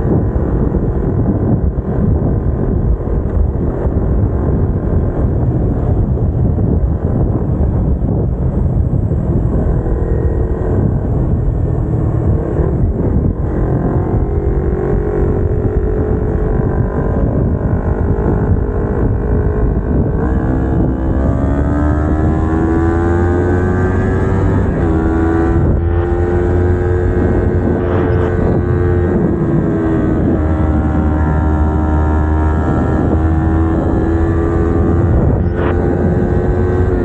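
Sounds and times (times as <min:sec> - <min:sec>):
low wind rumble: 0:00.0 - 0:37.0
motorcycle engine revving: 0:00.0 - 0:37.0.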